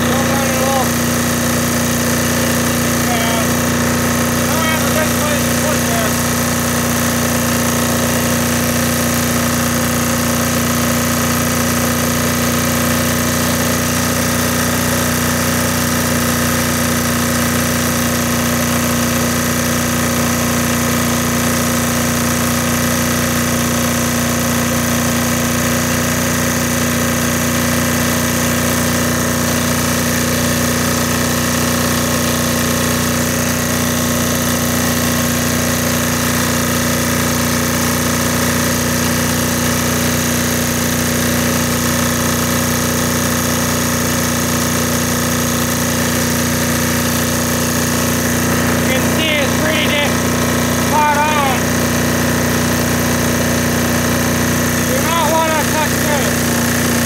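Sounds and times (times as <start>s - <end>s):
diesel generator engine running: 0.0s - 57.0s.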